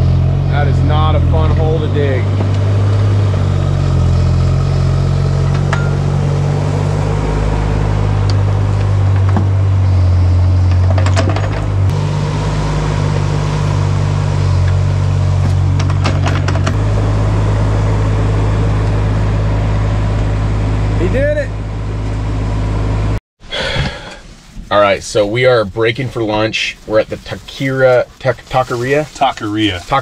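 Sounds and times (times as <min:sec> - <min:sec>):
diesel engine running: 0:00.0 - 0:25.5.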